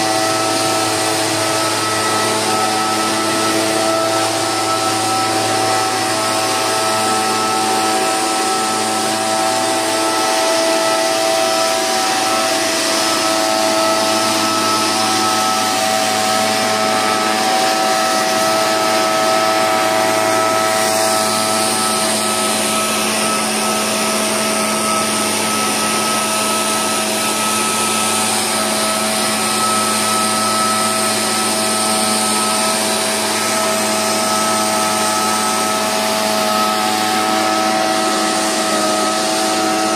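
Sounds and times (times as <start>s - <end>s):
air rushing through blower tube: 0.0s - 39.9s
two-stroke engine at high speed: 0.0s - 39.9s.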